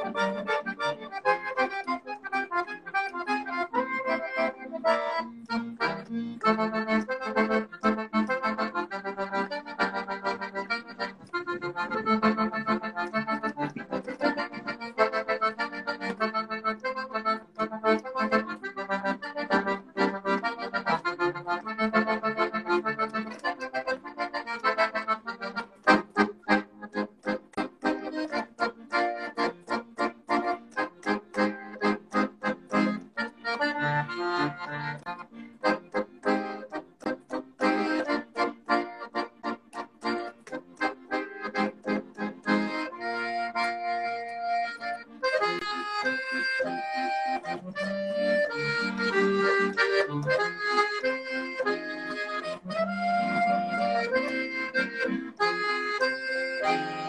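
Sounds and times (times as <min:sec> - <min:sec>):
piano accordion playing: 0:00.0 - 0:57.0.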